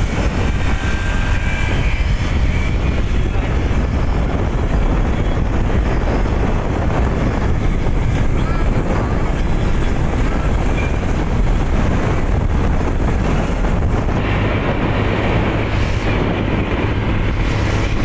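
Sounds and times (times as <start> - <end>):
motorcycle engine running: 0.0 - 18.0
road noise: 0.0 - 18.0
wind rush: 0.0 - 18.0.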